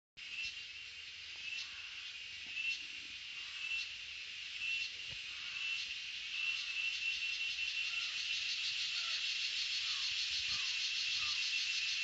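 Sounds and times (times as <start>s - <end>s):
cicadas buzzing in chorus: 0.2s - 12.0s.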